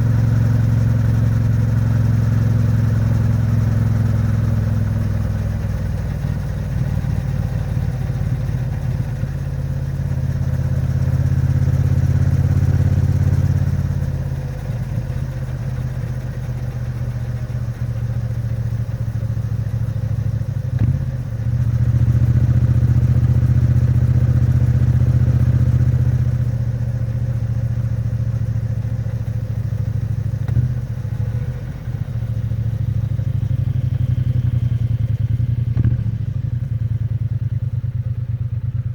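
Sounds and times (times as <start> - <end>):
engine knock: 0.0 - 38.9
motorcycle engine revving: 0.0 - 38.9.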